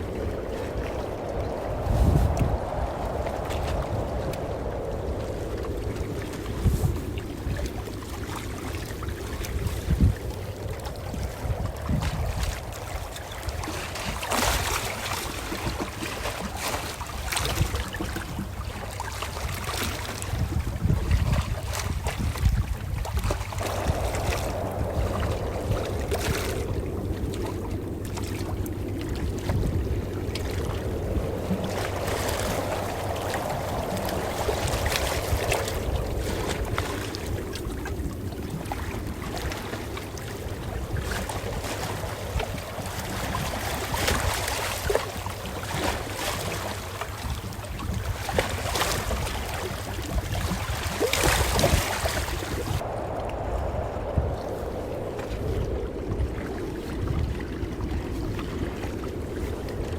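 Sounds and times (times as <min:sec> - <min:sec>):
low rumble: 0:00.0 - 0:16.0, 0:20.1 - 0:45.6, 0:52.1 - 0:59.9
ocean waves washing: 0:00.0 - 0:59.9
water splashes: 0:00.0 - 0:59.9.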